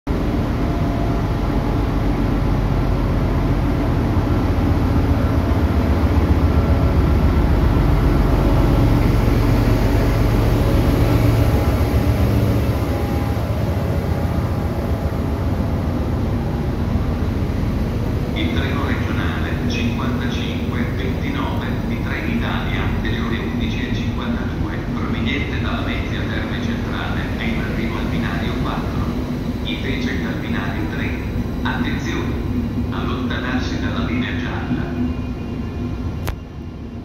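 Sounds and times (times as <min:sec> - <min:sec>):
diesel locomotive engine running: 0:00.1 - 0:37.0
train coaches rolling by: 0:00.1 - 0:37.0.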